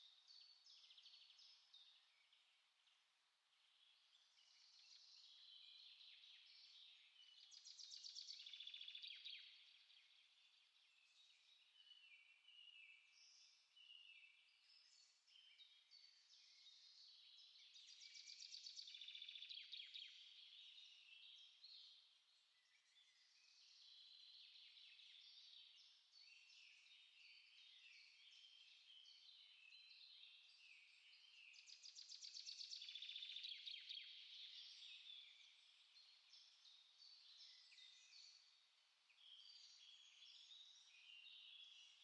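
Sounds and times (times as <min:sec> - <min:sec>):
songbird chorus: 0:00.0 - 0:42.0.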